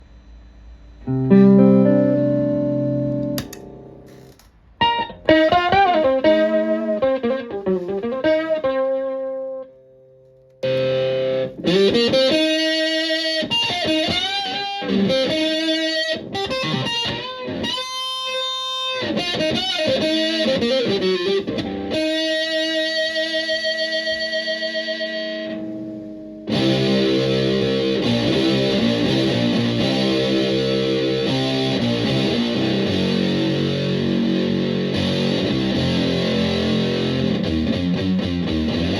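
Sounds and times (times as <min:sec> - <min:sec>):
electric guitar with fuzz: 0:00.0 - 0:38.9.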